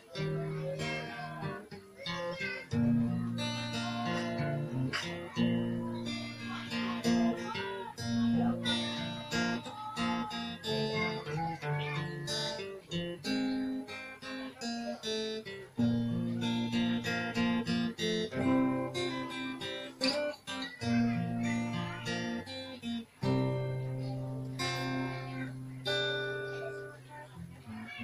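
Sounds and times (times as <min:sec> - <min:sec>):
acoustic guitar melody: 0:00.0 - 0:28.0.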